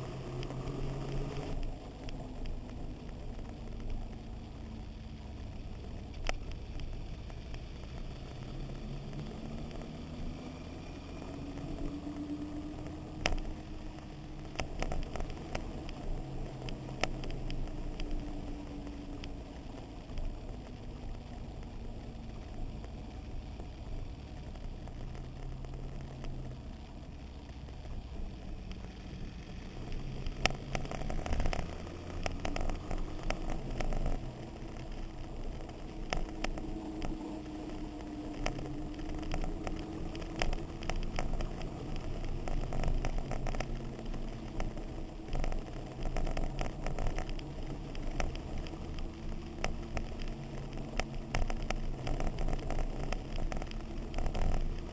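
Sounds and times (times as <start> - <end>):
wind rumble on microphone: 0.0 - 54.9.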